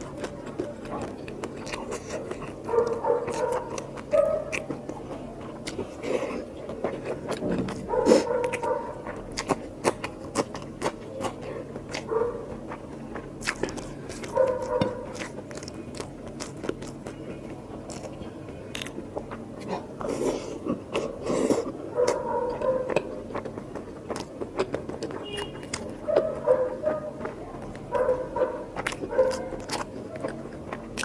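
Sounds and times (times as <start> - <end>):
wet chewing and smacking: 0.0 - 31.0.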